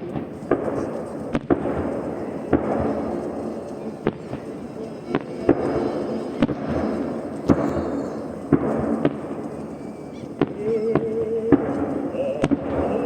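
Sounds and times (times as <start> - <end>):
firework shells bursting bangs: 0.0 - 13.0
rumble and crackle of bursts: 0.0 - 13.0.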